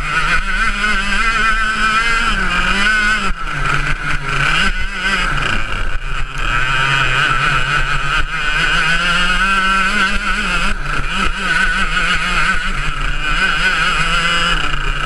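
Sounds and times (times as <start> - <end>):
kart engine revving: 0.0 - 15.0.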